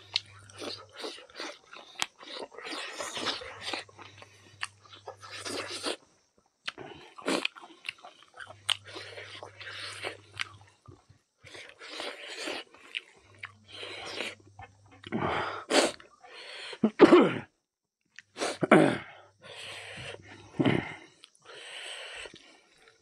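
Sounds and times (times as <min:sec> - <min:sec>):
man chewing food: 0:00.0 - 0:16.9, 0:19.4 - 0:23.0.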